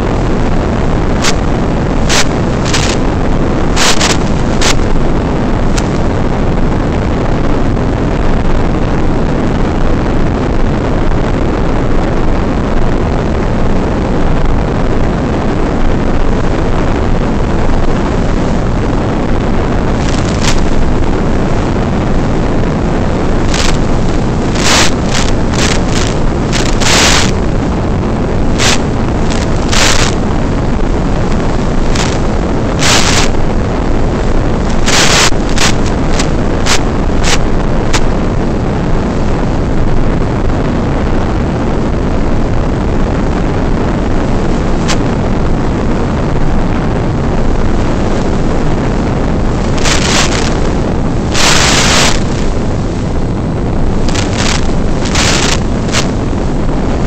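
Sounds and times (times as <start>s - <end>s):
static bursts: 0.0s - 57.0s
wind rush on microphone: 0.0s - 57.0s.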